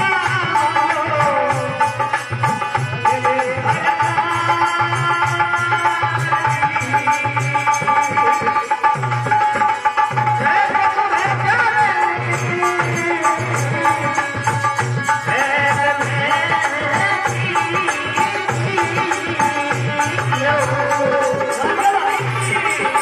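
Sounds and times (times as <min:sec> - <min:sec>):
person singing: 0:00.0 - 0:23.0.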